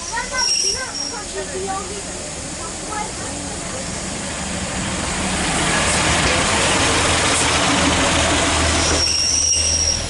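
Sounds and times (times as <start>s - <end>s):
train running on rails: 0.0s - 10.0s.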